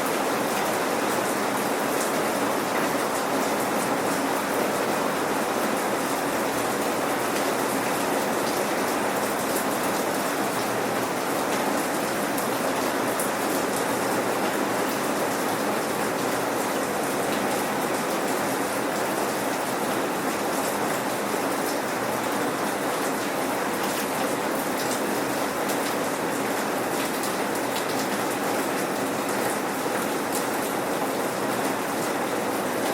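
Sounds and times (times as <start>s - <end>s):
raindrops pattering on a surface: 0.1s - 32.9s.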